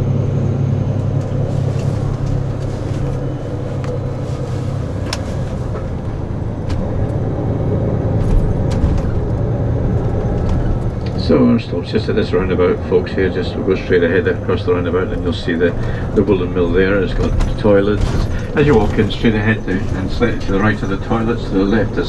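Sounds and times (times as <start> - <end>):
coach engine drone: 0.0 - 22.0
road noise: 0.0 - 22.0
light rattles in cabin: 0.3 - 22.0.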